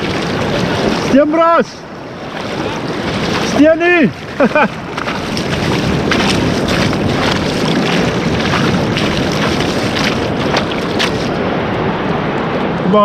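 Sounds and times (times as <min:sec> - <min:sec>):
wind buffeting microphone: 0:00.0 - 0:12.9
surf washing over sand: 0:00.0 - 0:13.0.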